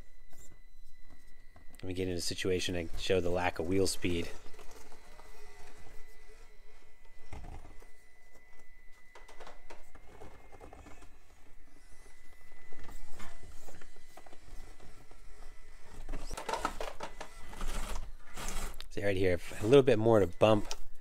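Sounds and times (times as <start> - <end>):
toy truck motor whirring: 2.7 - 8.6, 9.6 - 20.9.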